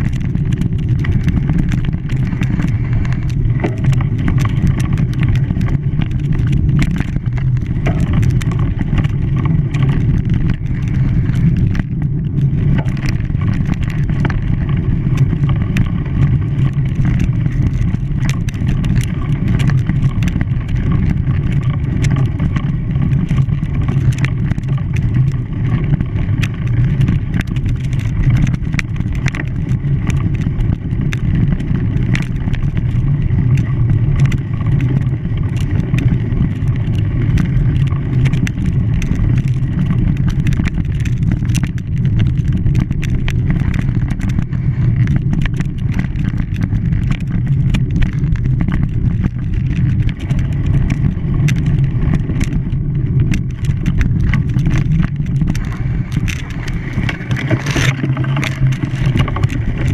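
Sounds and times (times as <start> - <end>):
light clicks and rattles: 0.0 - 59.9.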